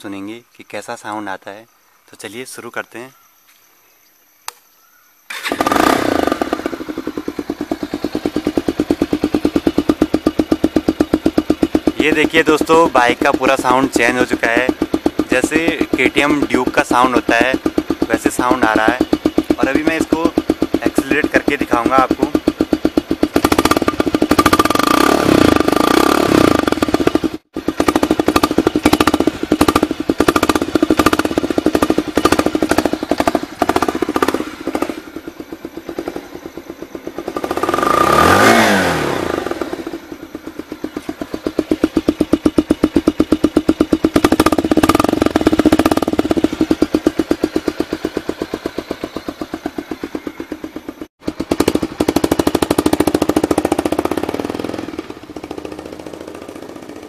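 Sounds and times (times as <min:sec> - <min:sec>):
motorcycle engine revving: 0:05.3 - 0:57.0.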